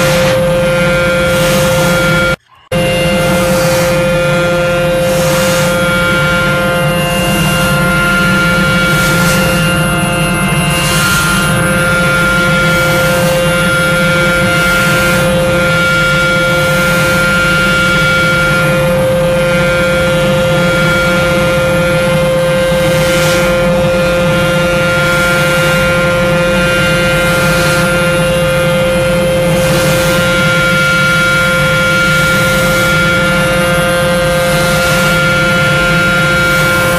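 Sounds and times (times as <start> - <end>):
small electric motors whining: 0.0 - 36.9.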